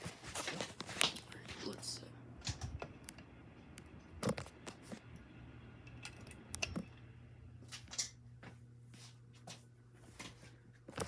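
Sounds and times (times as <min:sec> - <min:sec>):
ceiling fan motor humming: 0:00.0 - 0:11.0.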